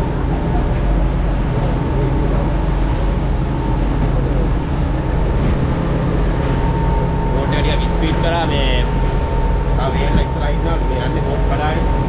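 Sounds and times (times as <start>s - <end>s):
boat engine droning: 0.0s - 12.0s
thin steady whine: 0.0s - 12.0s.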